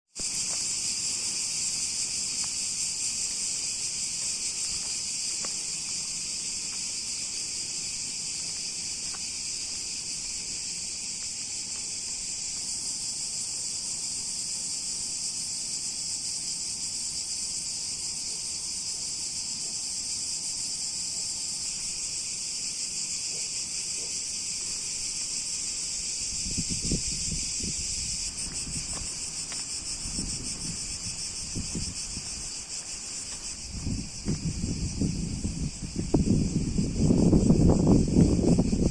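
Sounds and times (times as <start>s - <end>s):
insect chorus shrill drone: 0.2s - 38.9s.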